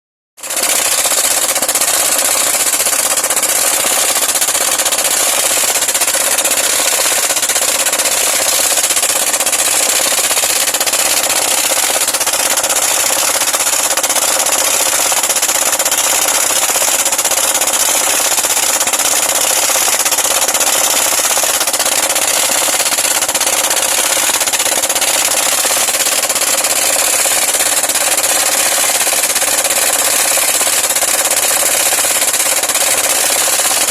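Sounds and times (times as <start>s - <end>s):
mining equipment running: 0.4s - 33.9s.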